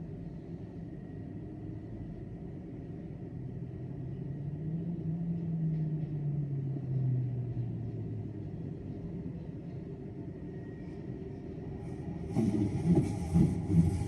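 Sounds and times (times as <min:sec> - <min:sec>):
low engine rumble: 0:00.0 - 0:14.0
station ambience: 0:00.0 - 0:14.0.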